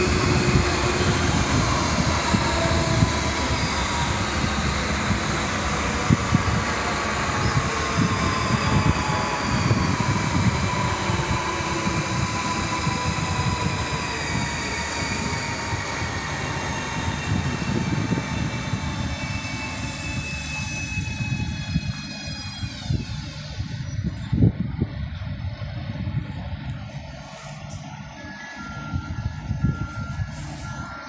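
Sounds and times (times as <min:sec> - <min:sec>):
higher motor whine: 0:00.0 - 0:31.0
traction motor whine: 0:00.0 - 0:31.0
train rumble: 0:00.0 - 0:31.0.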